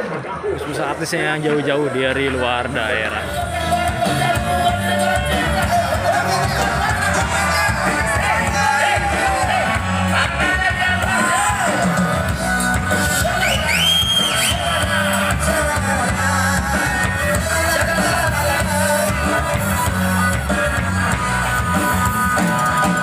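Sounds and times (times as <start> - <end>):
live band with singer: 0.0 - 23.0.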